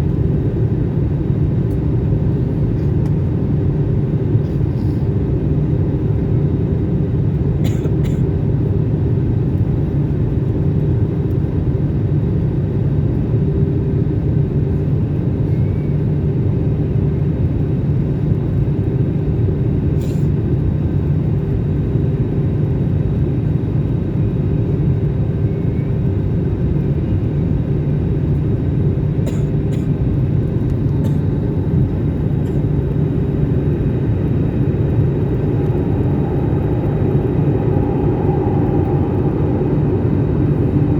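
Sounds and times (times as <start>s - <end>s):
airliner engines rumbling: 0.0s - 40.9s.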